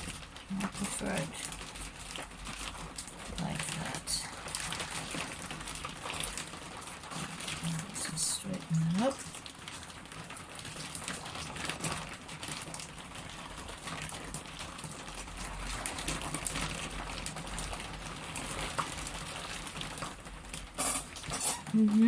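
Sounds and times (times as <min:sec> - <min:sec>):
wet hands working clay: 0:00.0 - 0:20.1.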